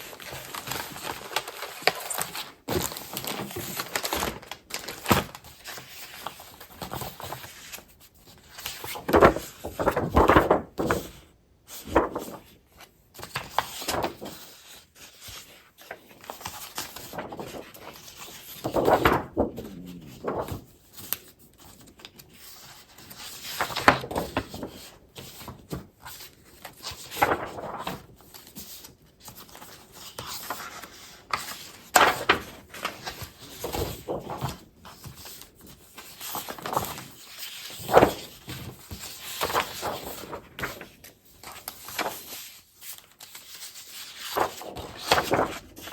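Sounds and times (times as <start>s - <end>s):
paper rustling and crinkling: 0.0s - 45.9s.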